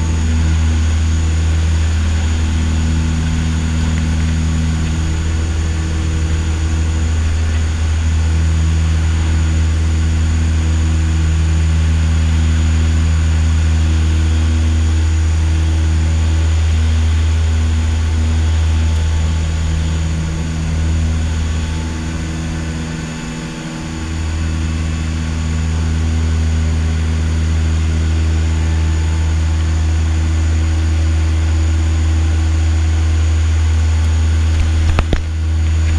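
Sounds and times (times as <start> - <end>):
turboprop engines droning: 0.0 - 35.9.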